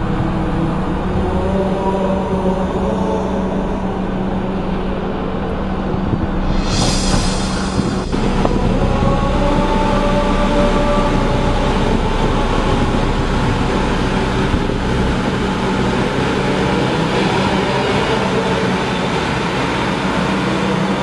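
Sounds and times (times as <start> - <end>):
diesel engine drone: 0.0 - 21.0
faint whine: 0.0 - 21.0.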